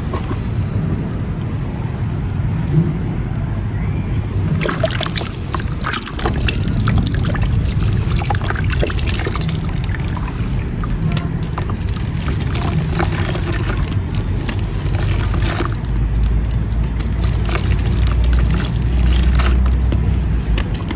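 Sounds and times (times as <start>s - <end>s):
steady low rumble: 0.0s - 20.9s
crumbles crackling in water: 3.2s - 20.9s.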